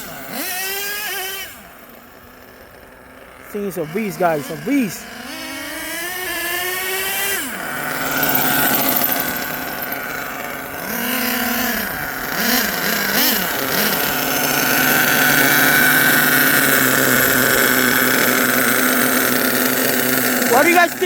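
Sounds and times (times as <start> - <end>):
nitro engines revving: 0.0 - 21.0.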